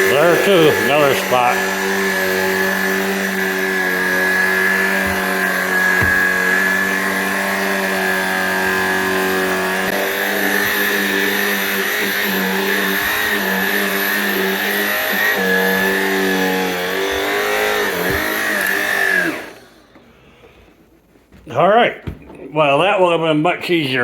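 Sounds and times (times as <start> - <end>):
vacuum cleaner motor hum and whine: 0.0 - 20.1.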